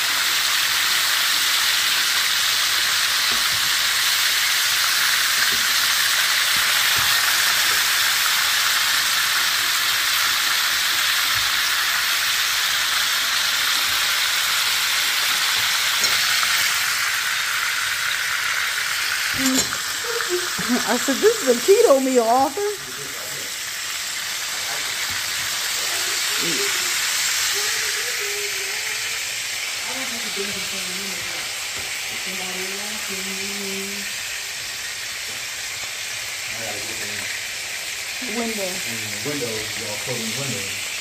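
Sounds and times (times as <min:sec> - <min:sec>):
meat sizzling in oil: 0:00.0 - 0:41.0.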